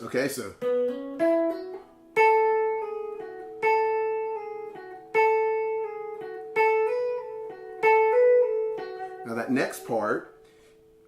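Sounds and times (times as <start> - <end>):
guitar lick with hammer-ons: 0.5 - 11.0.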